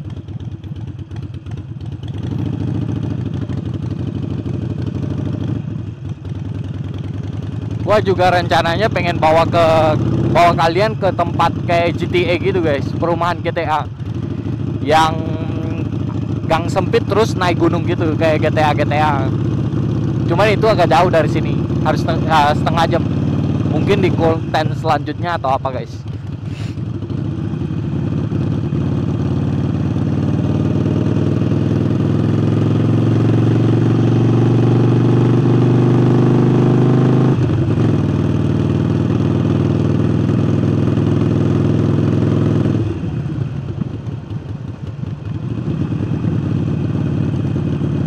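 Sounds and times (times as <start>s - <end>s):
motorcycle engine under throttle: 0.0s - 48.0s.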